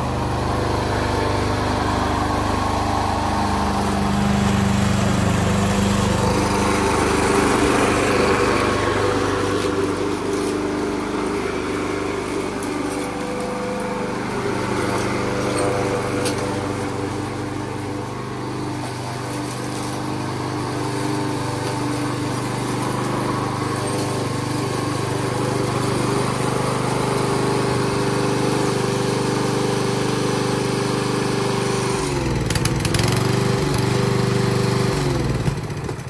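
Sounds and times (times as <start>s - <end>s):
lawnmower engine running: 0.0s - 36.0s.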